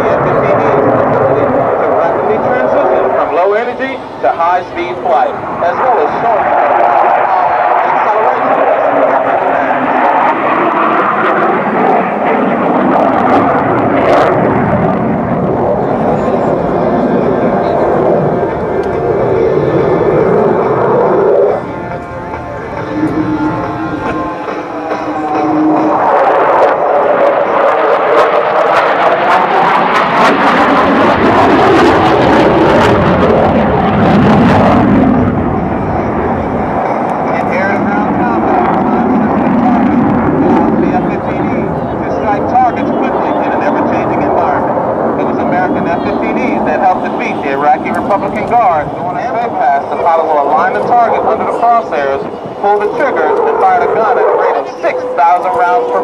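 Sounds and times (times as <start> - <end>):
fighter jet roar: 0.0 - 56.0.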